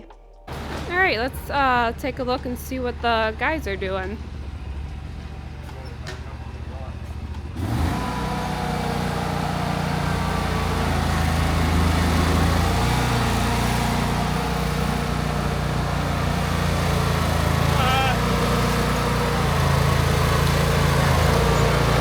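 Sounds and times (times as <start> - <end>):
engine idling: 0.5 - 22.0.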